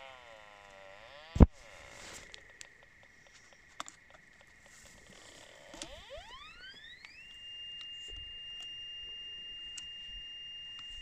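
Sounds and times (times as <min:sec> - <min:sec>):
steady high hum: 0:00.0 - 0:11.0
metal detector beeping: 0:02.0 - 0:11.0.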